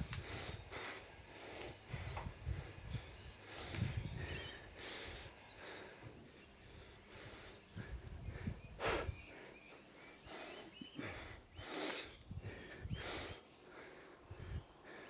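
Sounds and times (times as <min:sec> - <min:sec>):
person breathing hard: 0:00.0 - 0:15.0
faint bird chirps: 0:02.9 - 0:15.0.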